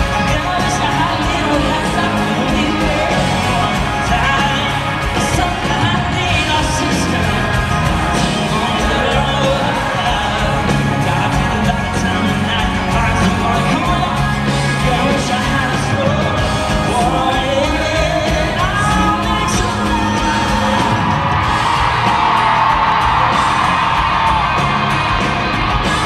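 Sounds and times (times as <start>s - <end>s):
man singing: 0.0s - 21.4s
country pop band playing: 0.0s - 26.0s.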